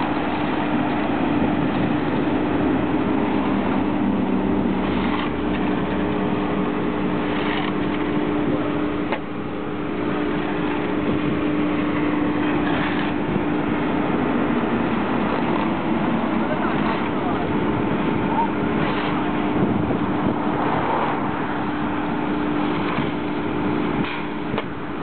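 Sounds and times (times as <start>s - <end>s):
engine hum: 0.0s - 25.0s
machine rumble: 0.0s - 25.0s.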